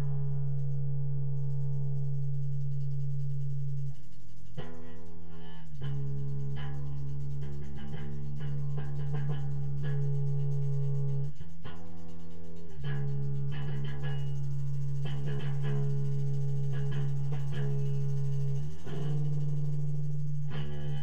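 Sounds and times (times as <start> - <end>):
plucked string notes: 0.0 - 3.9, 4.6 - 21.0
loud low drone: 0.0 - 21.0.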